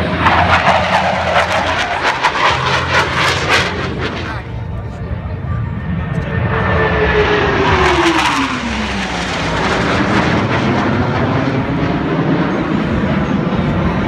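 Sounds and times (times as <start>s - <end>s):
jets roaring overhead: 0.0s - 14.0s.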